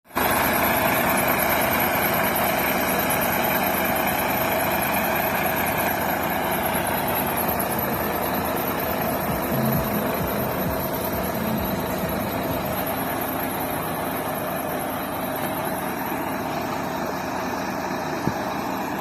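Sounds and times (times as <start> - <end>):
coach engine droning: 0.2 - 19.0.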